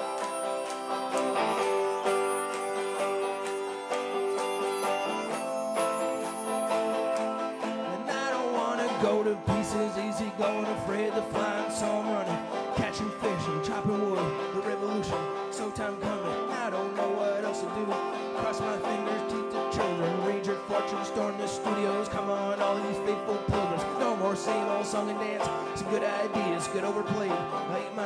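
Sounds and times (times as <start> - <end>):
electric guitar lead: 0.0 - 28.0
plucked banjo: 0.0 - 28.0.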